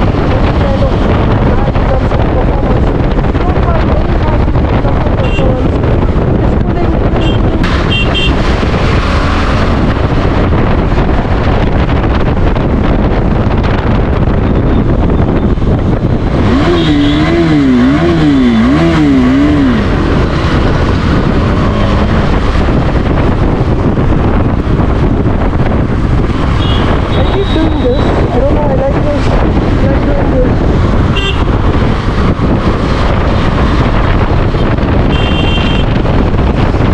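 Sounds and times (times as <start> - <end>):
heavy wind rush on microphone: 0.0 - 36.9
motorcycle engine running: 0.0 - 36.9.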